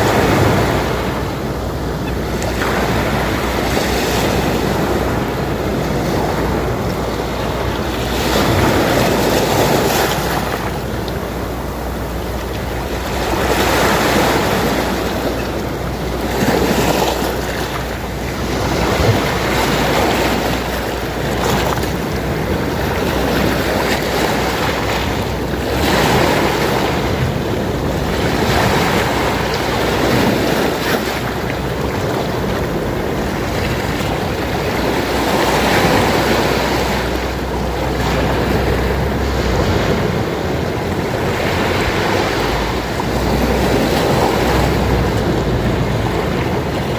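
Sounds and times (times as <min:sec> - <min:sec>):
sea waves breaking on shore: 0:00.0 - 0:46.9
steady low rumble: 0:00.0 - 0:46.9.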